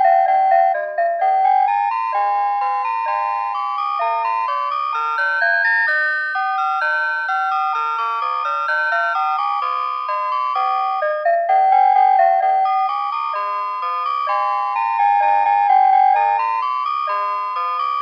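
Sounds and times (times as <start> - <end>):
electronic alarm clock melody: 0.0 - 18.0.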